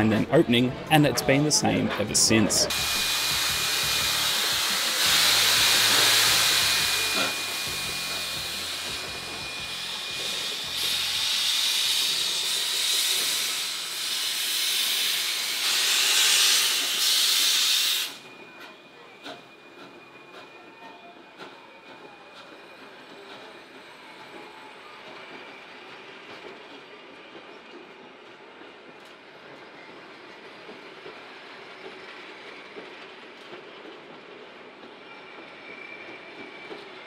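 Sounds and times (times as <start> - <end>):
steam locomotive hissing steam: 2.3 - 27.3, 29.2 - 37.0.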